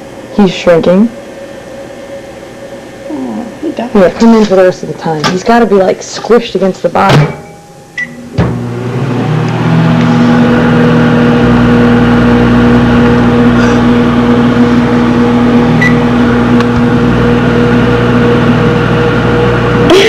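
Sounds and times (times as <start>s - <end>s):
microwave oven humming: 0.0s - 20.0s.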